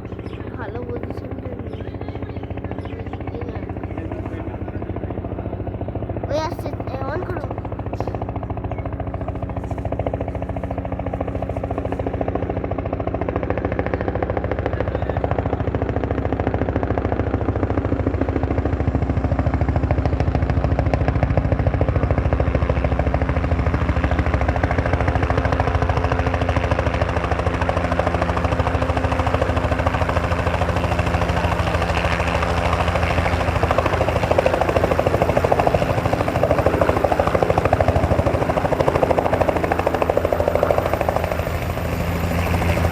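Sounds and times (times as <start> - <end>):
helicopter rotor blades chopping: 0.0 - 42.9.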